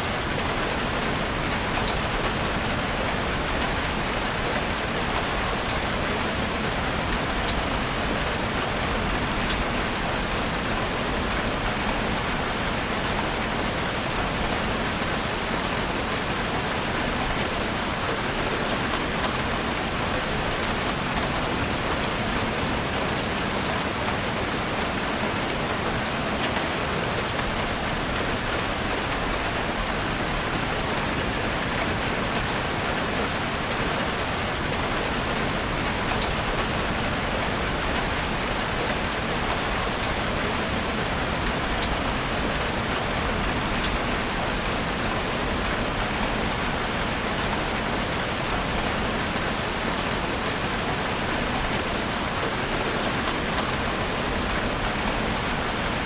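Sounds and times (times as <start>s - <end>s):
heavy rain drumming on a roof: 0.0s - 56.0s.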